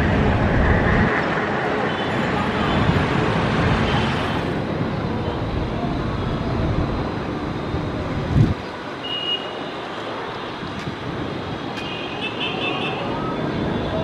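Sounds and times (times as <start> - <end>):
jet engines low rumble: 0.0 - 9.0, 9.8 - 12.0.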